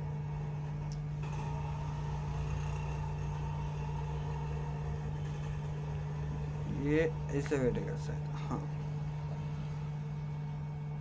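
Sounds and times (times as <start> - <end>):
blower humming: 0.0 - 11.0
low drone: 0.0 - 11.0.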